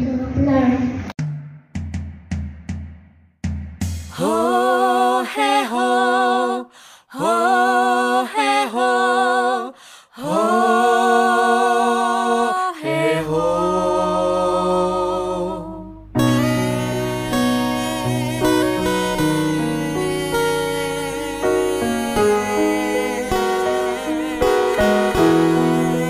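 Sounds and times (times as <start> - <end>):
woman singing unaccompanied: 4.2 - 14.4, 15.3 - 26.0.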